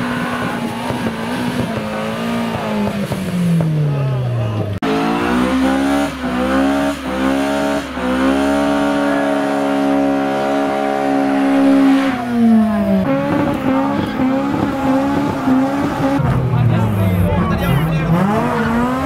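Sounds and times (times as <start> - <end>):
car engine at high revs: 0.0 - 19.0.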